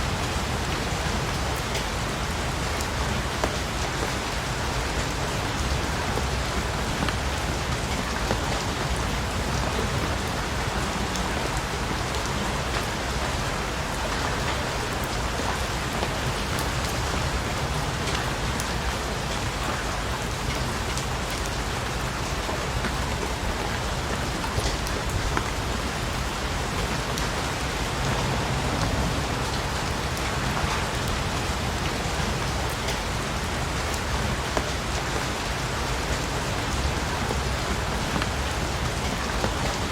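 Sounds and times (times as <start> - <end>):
rain pattering on surface: 0.0 - 39.9.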